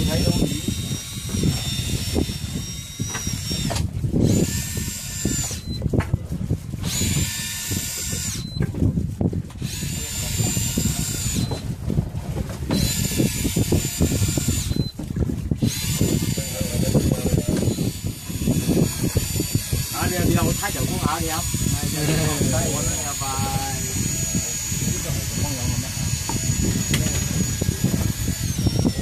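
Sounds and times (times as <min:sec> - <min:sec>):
fishing reel motor whining: 0:00.0 - 0:06.0, 0:06.7 - 0:08.7, 0:09.6 - 0:11.7, 0:12.7 - 0:15.0, 0:15.6 - 0:29.0.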